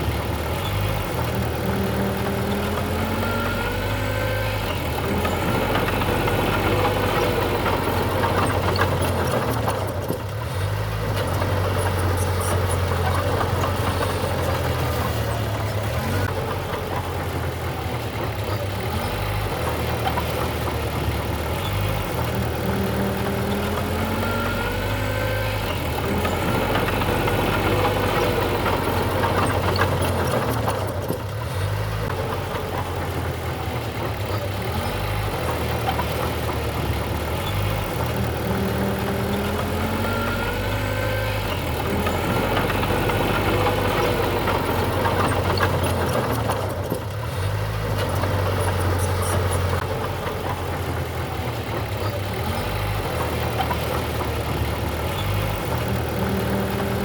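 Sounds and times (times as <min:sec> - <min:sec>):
heavy diesel machinery engine: 0:00.0 - 0:57.0.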